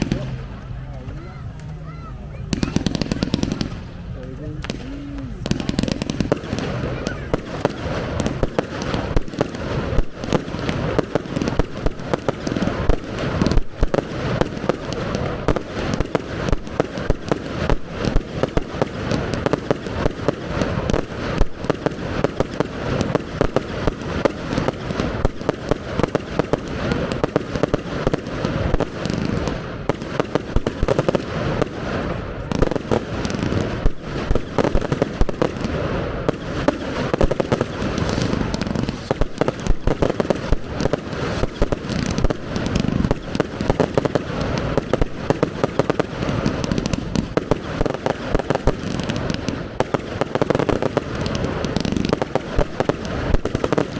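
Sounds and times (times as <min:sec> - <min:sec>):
fireworks bangs: 0:00.0 - 0:53.9.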